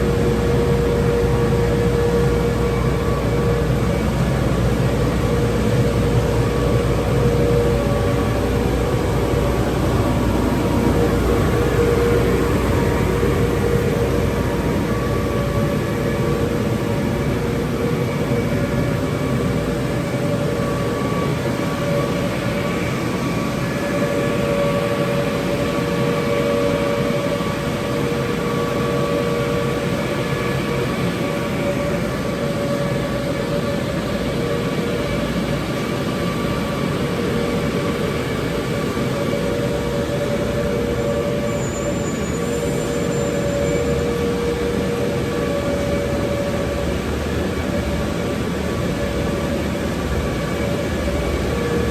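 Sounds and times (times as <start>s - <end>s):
car wash machinery rushing: 0.0s - 51.9s
steady machine whine: 0.0s - 51.9s.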